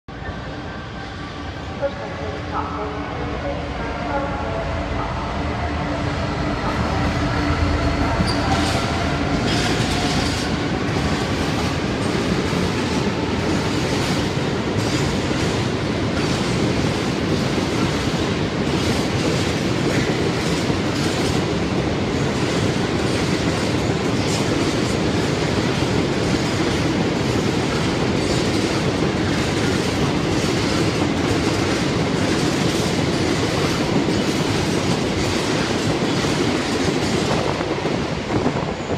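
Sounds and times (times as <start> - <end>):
diesel locomotive engine: 0.1 - 38.9.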